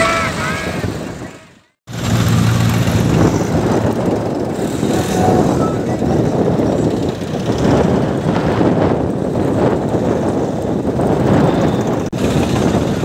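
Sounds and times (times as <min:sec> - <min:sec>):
tractor diesel engines running: 0:00.0 - 0:13.0.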